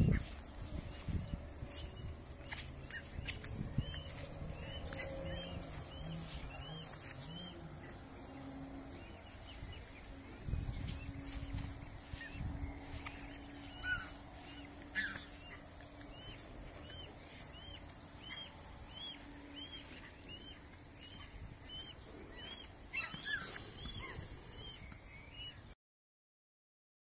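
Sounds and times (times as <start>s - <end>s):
cygnets peeping: 0.0s - 25.8s
descending bird calls: 0.0s - 25.8s.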